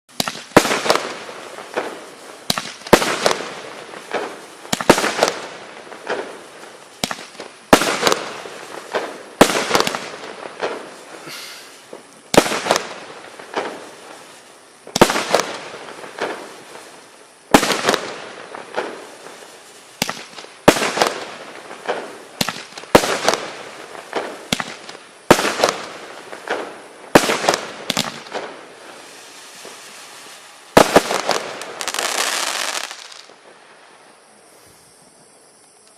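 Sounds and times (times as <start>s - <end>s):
firework bangs with crackling: 0.1s - 34.2s.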